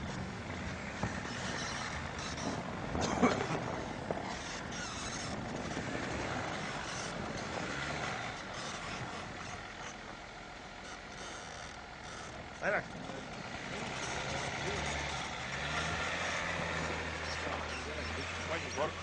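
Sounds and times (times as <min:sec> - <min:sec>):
engine and tyre noise: 0:00.0 - 0:19.0.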